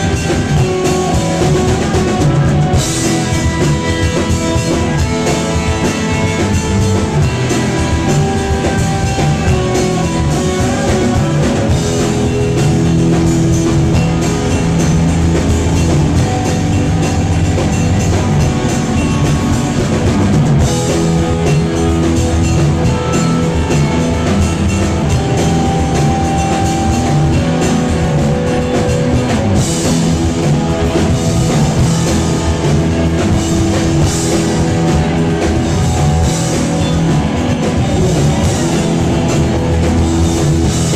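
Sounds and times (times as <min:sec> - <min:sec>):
live rock band: 0:00.0 - 0:40.9.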